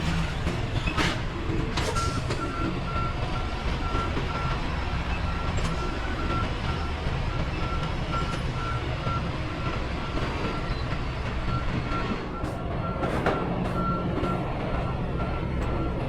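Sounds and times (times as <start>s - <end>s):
diesel engine rumble: 0.0s - 16.0s
truck backup alarm beeping: 1.8s - 16.0s.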